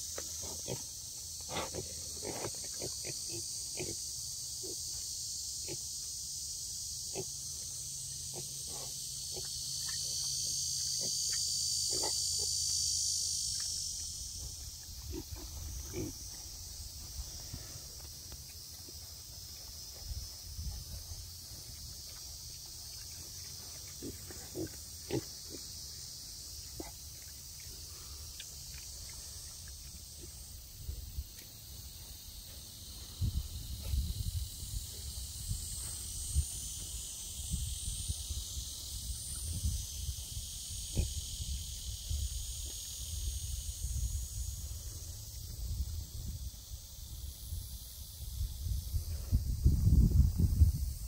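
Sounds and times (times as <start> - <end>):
pigs grunting and snuffling: 0.0 - 6.0, 6.6 - 12.6, 13.5 - 37.3, 38.2 - 43.2
high-pitched hiss: 0.0 - 51.0.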